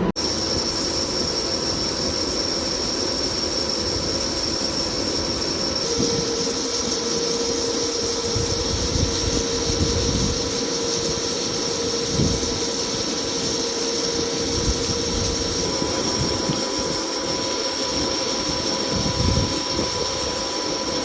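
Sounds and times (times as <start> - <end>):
lathe whine and hum: 0.0 - 21.0
rough machining noise: 0.0 - 21.0.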